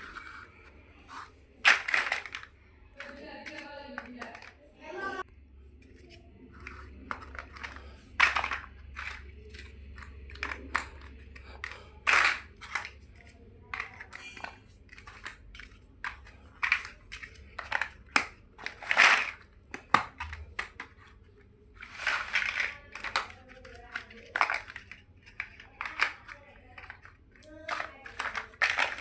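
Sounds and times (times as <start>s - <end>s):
plastic blocks clicking and rattling: 0.0s - 29.0s.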